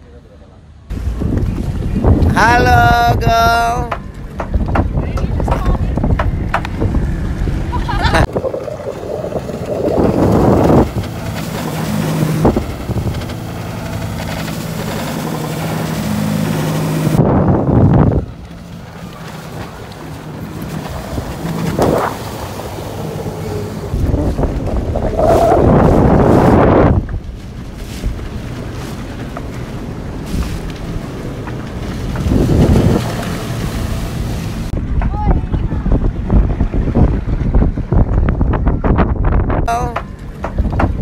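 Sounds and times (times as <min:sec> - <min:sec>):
jet ski engine humming: 0:00.0 - 0:41.0
water splashing against hull: 0:00.9 - 0:41.0
wind buffeting microphone: 0:00.9 - 0:41.0.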